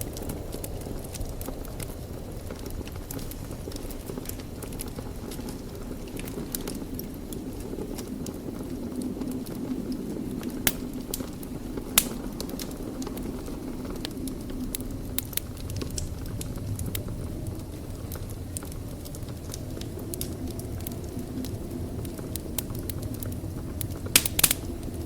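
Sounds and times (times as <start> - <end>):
fire pops: 0.0 - 25.0
wood fire burning: 0.0 - 25.0.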